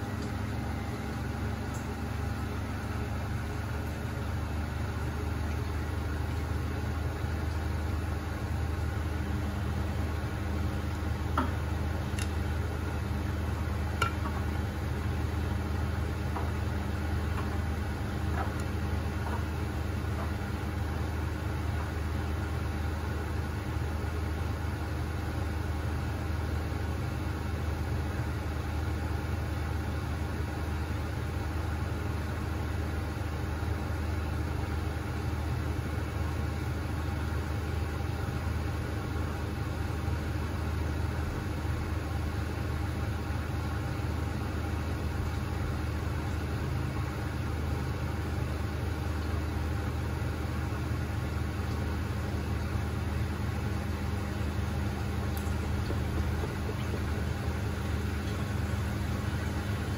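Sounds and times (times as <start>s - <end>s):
washing machine humming: 0.0s - 59.9s.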